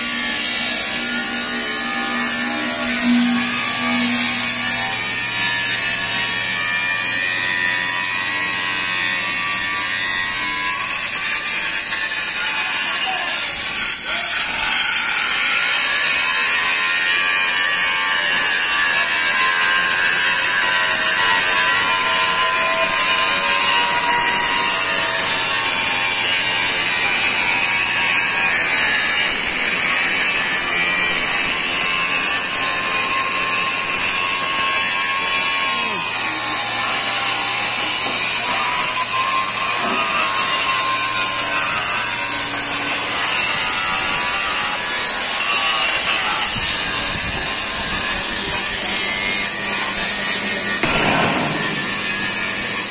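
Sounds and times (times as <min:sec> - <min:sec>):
angle grinder grinding steel: 0:00.0 - 0:52.9.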